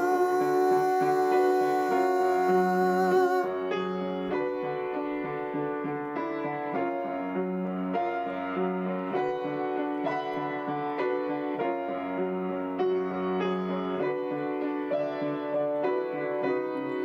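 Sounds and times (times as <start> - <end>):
piano playing chords: 0.0 - 17.0.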